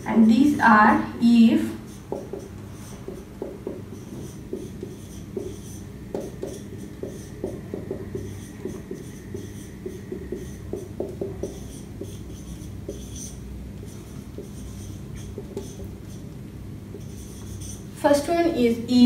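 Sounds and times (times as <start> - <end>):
marker squeaking on whiteboard: 1.6 - 17.9.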